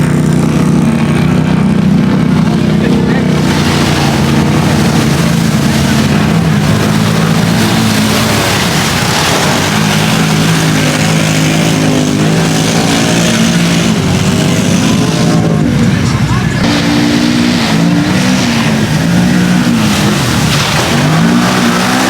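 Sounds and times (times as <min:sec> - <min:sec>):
off-road vehicle engines revving: 0:00.0 - 0:22.0
steady rushing noise: 0:00.0 - 0:22.0.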